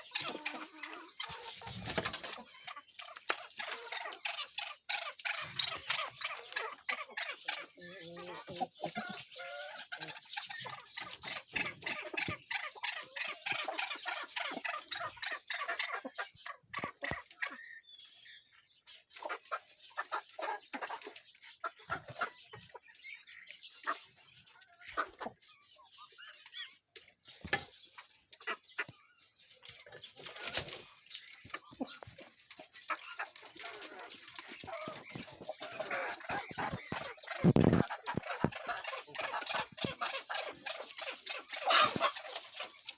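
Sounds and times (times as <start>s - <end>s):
fowl clucking and calling: 0.0s - 42.9s.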